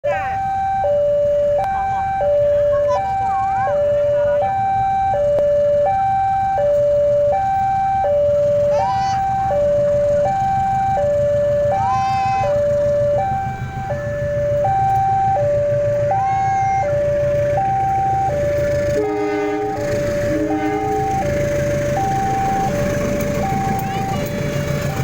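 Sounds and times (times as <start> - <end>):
lower-pitched warning sound: 0.0 - 25.0
two-tone warning siren: 0.0 - 25.0.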